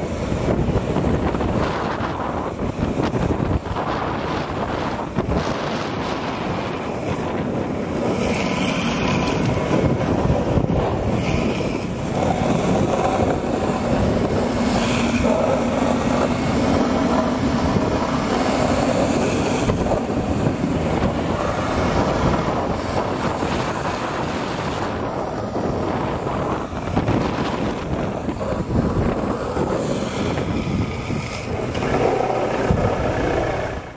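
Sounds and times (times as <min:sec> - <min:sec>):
wheels rumbling on asphalt: 0:00.0 - 0:33.9
wind rushing over microphone: 0:00.0 - 0:33.9.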